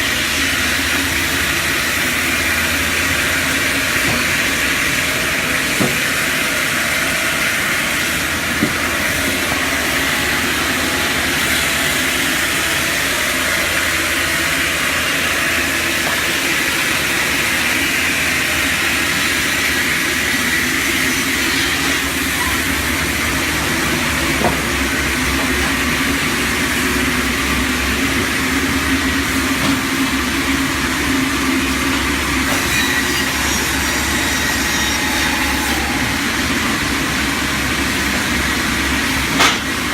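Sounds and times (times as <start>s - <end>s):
log cutting saw running: 0.0s - 39.9s.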